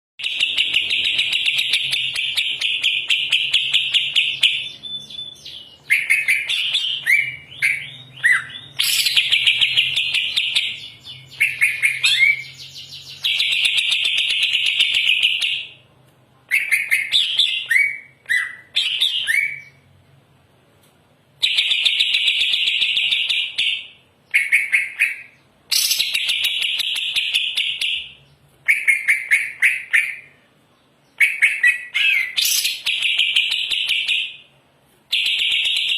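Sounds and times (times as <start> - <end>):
bird singing: 0.2 - 15.8, 16.5 - 19.9, 21.4 - 34.4.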